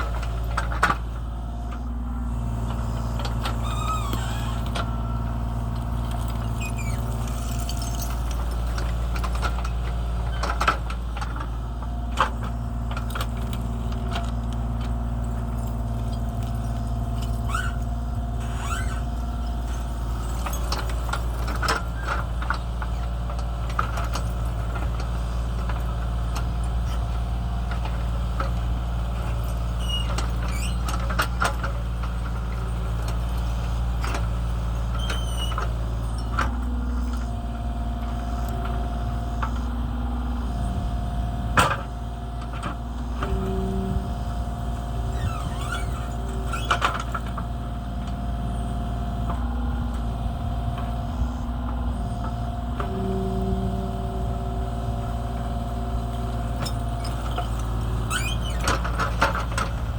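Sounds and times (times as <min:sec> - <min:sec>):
hydraulic whine: 0:00.0 - 0:23.0, 0:32.1 - 0:59.9
excavator diesel engine running: 0:00.0 - 0:59.9.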